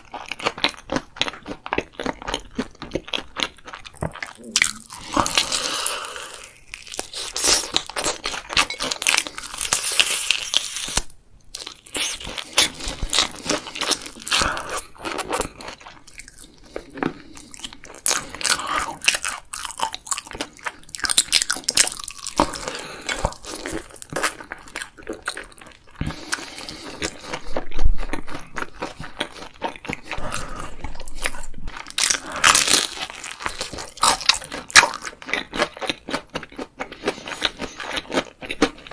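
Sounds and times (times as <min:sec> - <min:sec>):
crunchy bites and chewing: 0:00.0 - 0:38.9.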